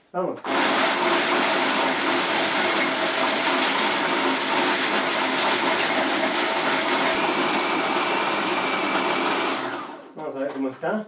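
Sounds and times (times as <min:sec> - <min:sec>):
food processor chopping nuts: 0:00.4 - 0:10.6.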